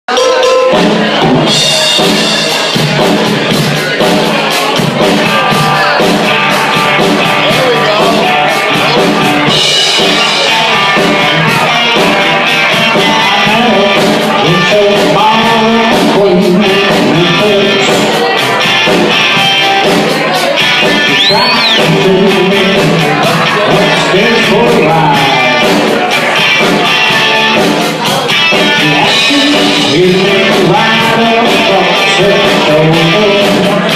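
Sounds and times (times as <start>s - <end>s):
electric guitar: 0.1s - 33.9s
person singing: 0.1s - 33.9s.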